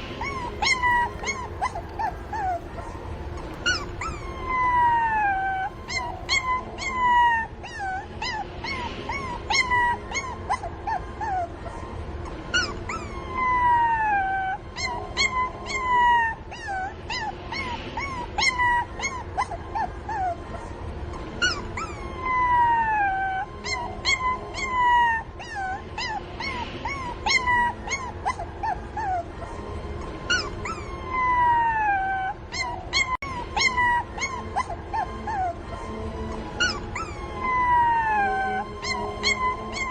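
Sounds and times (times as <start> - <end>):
puppies yelping: 0.0 - 11.5, 12.5 - 20.4, 21.4 - 29.3, 30.3 - 35.6, 36.4 - 39.9
puppies whining: 0.0 - 11.6, 12.2 - 20.4, 21.1 - 29.4, 30.2 - 39.9.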